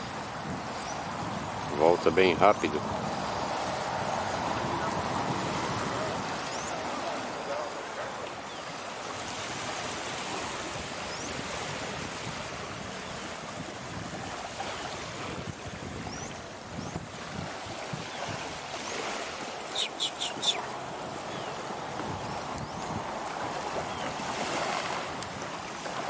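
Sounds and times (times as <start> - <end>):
small waves on sandy beach: 0.0 - 26.0.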